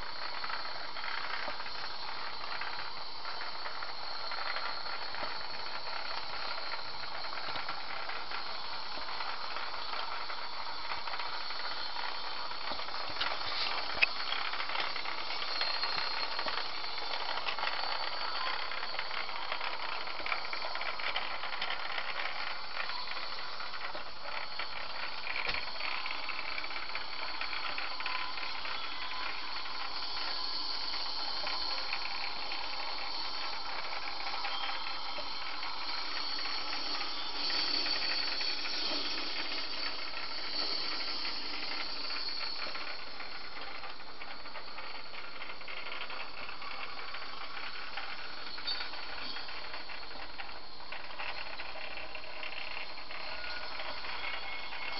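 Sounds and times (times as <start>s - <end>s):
model trains whirring on track: 0.0s - 54.9s.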